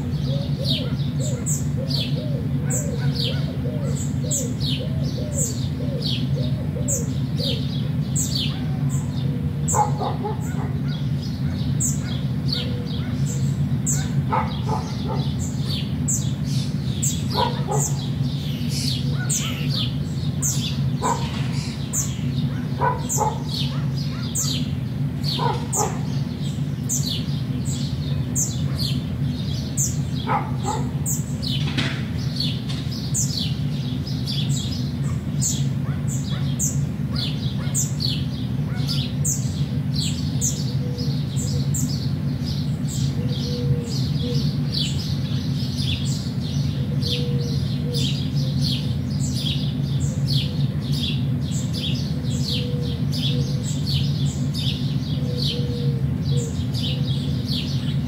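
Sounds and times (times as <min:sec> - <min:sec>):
lower arched bird notes: 0:00.0 - 0:58.0
songbirds chirping: 0:00.0 - 0:58.0.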